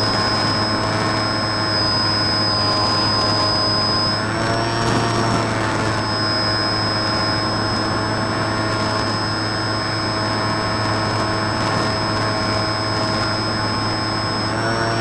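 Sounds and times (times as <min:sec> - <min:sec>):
aircraft engine and propeller drone: 0:00.0 - 0:15.0
thin high whine: 0:00.0 - 0:15.0.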